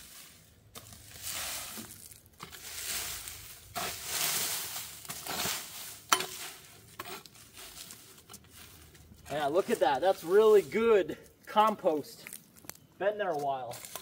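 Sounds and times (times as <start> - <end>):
garden tool scraping dry leaves: 0.0 - 14.0.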